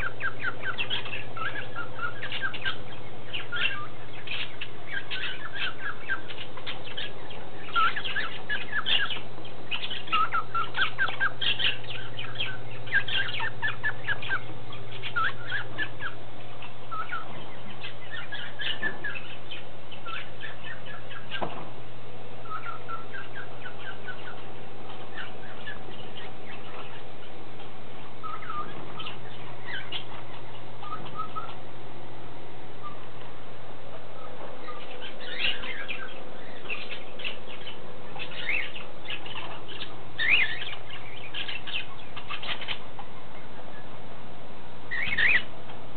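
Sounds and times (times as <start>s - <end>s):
birds chirping: 0.0s - 45.9s
steady low hum: 0.0s - 45.9s.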